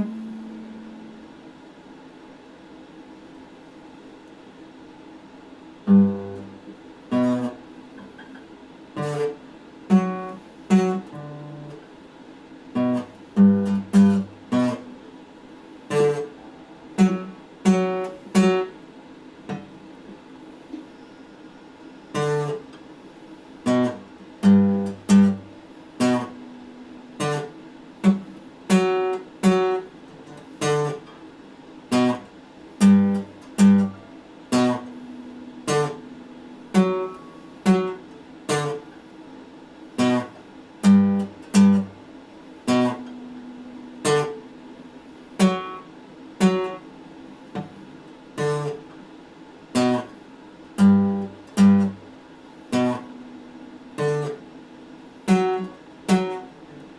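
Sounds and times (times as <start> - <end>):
acoustic guitar picked notes: 0.0 - 1.7, 5.8 - 56.9.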